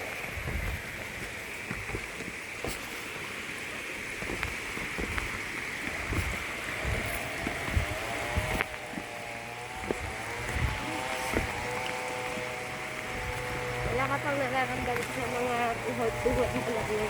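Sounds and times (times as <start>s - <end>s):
steady outdoor hiss: 0.0s - 17.0s
wind buffeting microphone: 0.0s - 17.0s.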